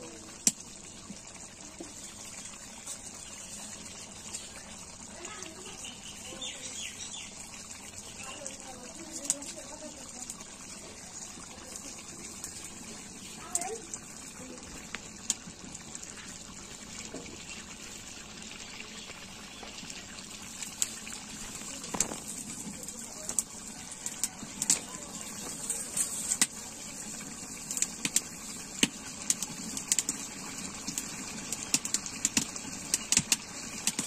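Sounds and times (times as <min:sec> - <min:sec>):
curry boiling with pops: 0:00.0 - 0:34.0.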